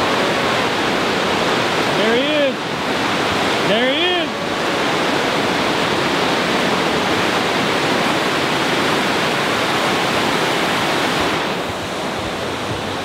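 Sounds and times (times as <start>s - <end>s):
dam water rushing: 0.0s - 13.0s.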